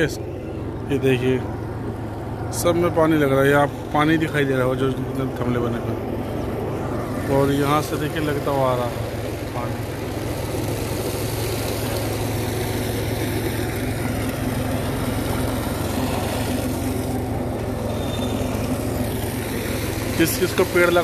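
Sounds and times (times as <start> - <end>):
tractor engine idling: 0.0 - 21.0
water gushing onto ground: 0.0 - 21.0.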